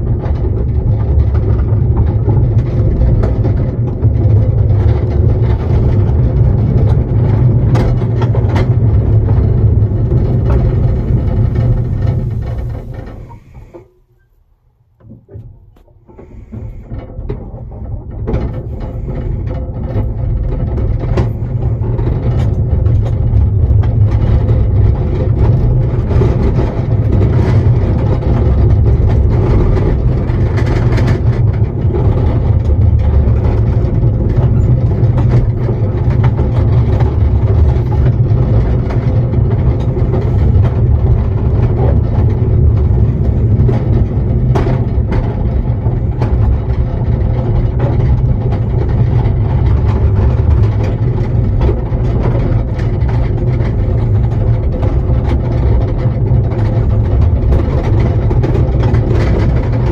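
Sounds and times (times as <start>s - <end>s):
miniature train rumbling on track: 0.0s - 59.9s.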